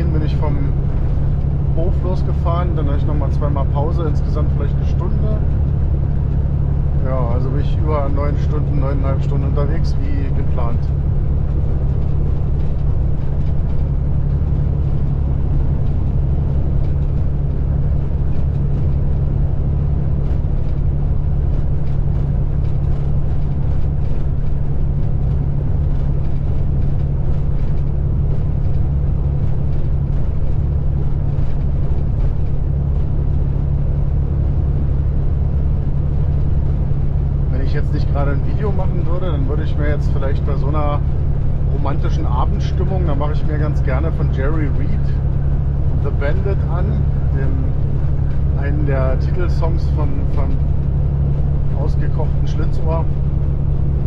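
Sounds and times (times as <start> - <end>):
truck engine and road drone: 0.0 - 54.0.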